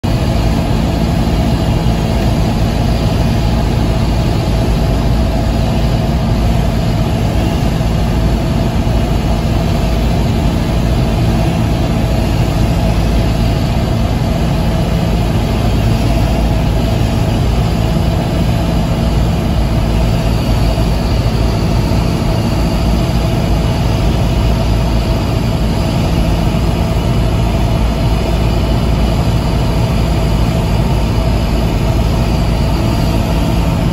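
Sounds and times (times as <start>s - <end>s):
airplane engine drone: 0.0s - 33.9s
rush of air noise: 0.0s - 33.9s.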